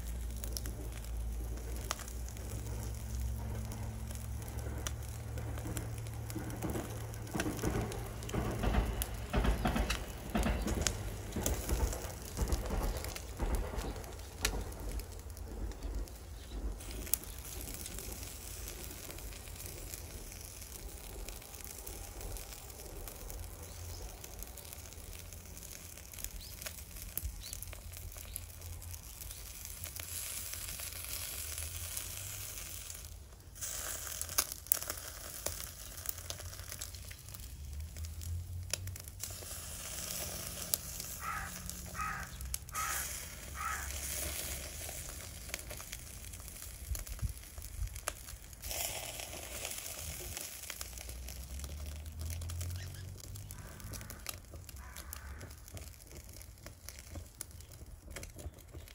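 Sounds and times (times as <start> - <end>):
fish sizzling over charcoal: 0.0 - 58.9
low steady rumble: 0.0 - 58.9.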